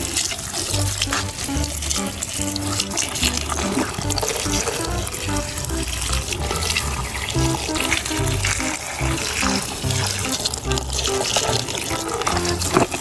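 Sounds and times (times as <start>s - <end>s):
running tap water splashing: 0.0s - 13.0s
background music with bass line: 0.8s - 12.8s.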